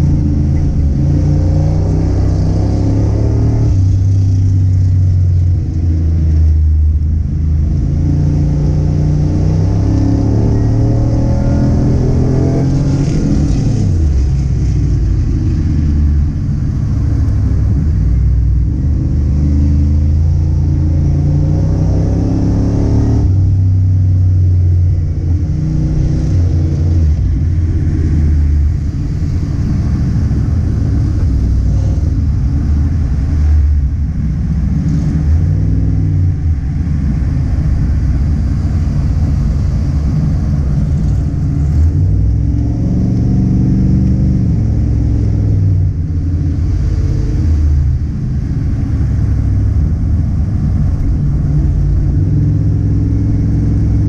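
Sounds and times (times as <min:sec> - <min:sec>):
car engine revving hard: 0:00.0 - 0:04.6, 0:07.6 - 0:23.7, 0:24.4 - 0:54.0.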